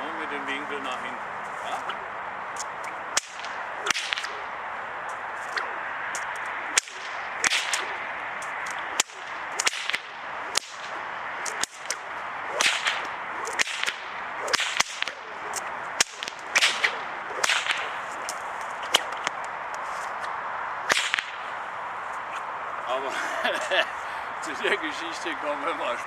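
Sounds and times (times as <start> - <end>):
whip cracking: 1.4 - 22.5
whip swishing: 1.4 - 22.5.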